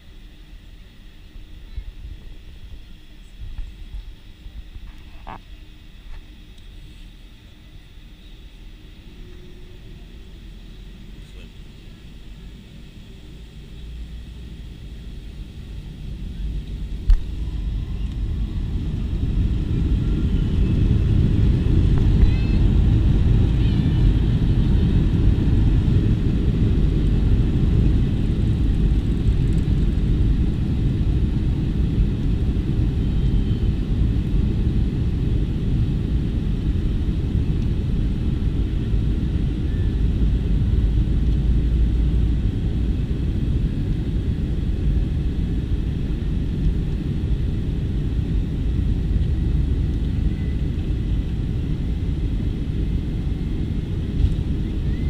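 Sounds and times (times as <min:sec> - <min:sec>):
aircraft engines rumbling in cabin: 0:00.0 - 0:55.0.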